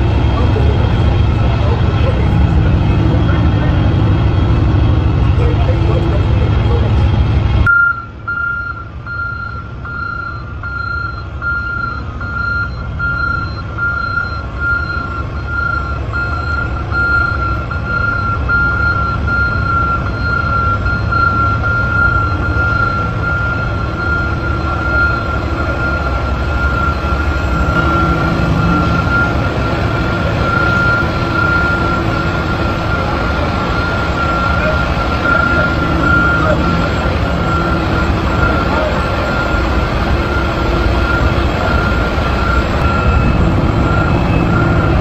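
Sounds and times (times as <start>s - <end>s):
truck engine rumbling: 0.0s - 45.0s
reversing alarm beeping: 7.6s - 45.0s.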